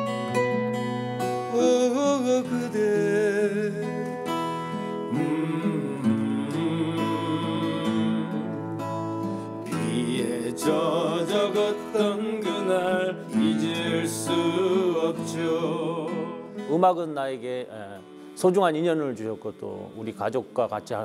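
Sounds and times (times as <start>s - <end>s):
acoustic guitars plucking: 0.0s - 21.0s.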